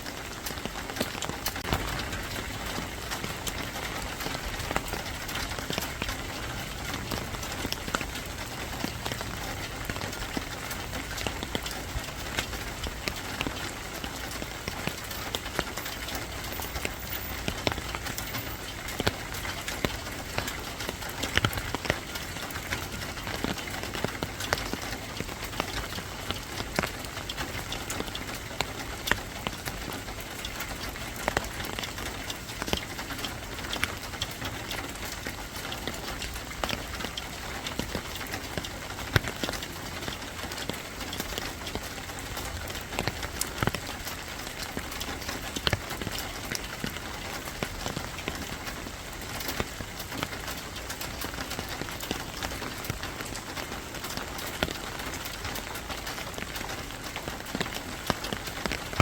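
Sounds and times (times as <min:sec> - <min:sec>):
rain pattering: 0:00.0 - 0:59.0
sharp raindrop taps: 0:00.0 - 0:59.0.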